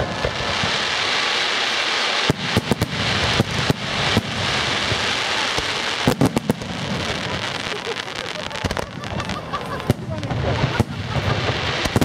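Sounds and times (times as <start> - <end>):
fireworks bangs: 0.0 - 12.0
fireworks crackling and fizzing: 0.0 - 12.0.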